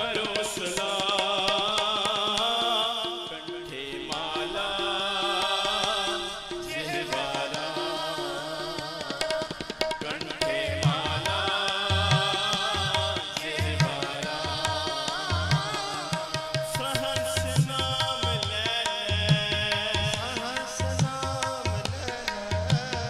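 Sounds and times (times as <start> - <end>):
person singing ornamented melody: 0.0 - 23.0
tabla drumming: 0.0 - 23.0.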